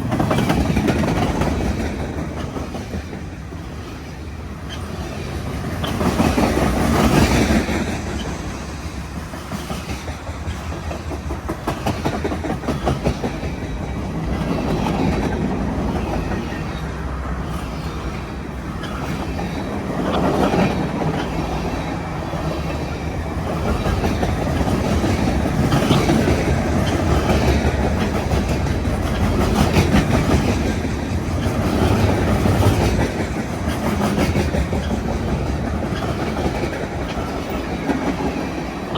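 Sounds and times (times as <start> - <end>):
freight train wheels clicking on rail joints: 0.0 - 38.9.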